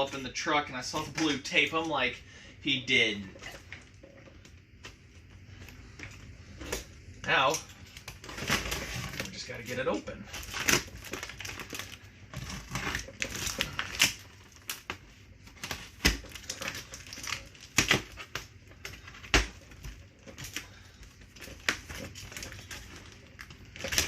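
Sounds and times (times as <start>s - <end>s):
cardboard crinkling and rustling: 2.9s - 24.0s.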